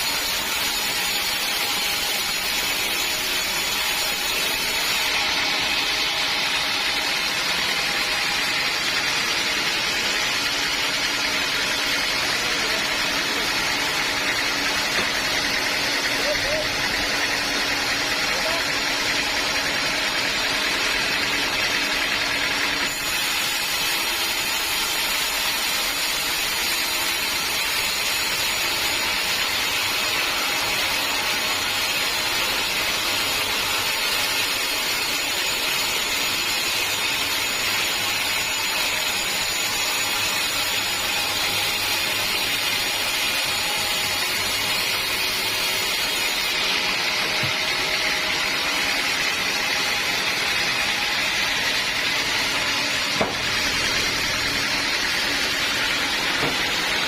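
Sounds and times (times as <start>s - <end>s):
sawmill cutting log: 0.0s - 57.0s.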